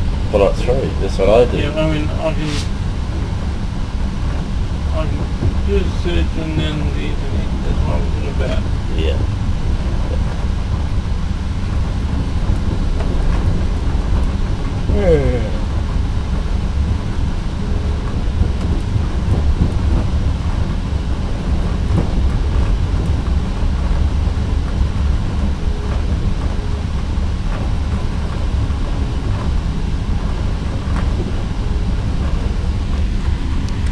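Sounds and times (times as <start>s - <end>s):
train rumble from inside carriage: 0.0s - 33.9s.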